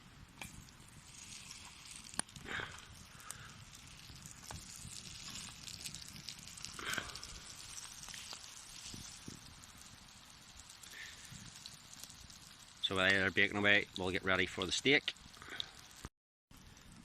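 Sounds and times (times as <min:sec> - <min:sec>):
campfire crackling and popping: 0:00.0 - 0:17.0
steady hiss: 0:00.0 - 0:17.0
rustle: 0:00.1 - 0:17.0.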